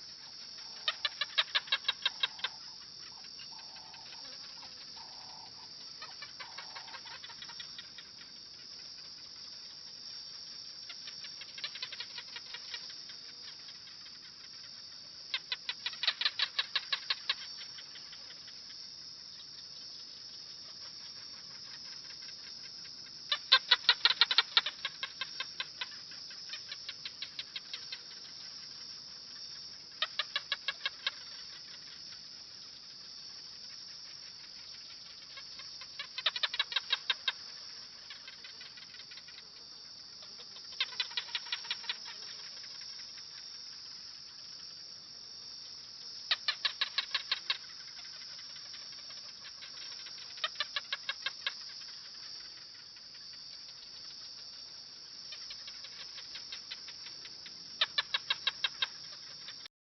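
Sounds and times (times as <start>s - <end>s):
high-pitched hiss: 0.0s - 59.7s.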